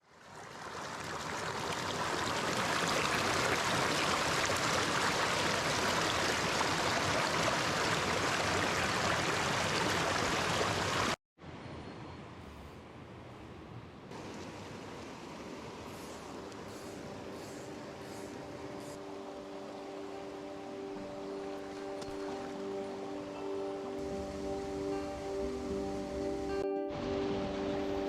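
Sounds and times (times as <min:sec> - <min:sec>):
stream water rushing: 0:00.0 - 0:11.2, 0:14.1 - 0:28.0
soft rush of water or air: 0:00.0 - 0:28.0.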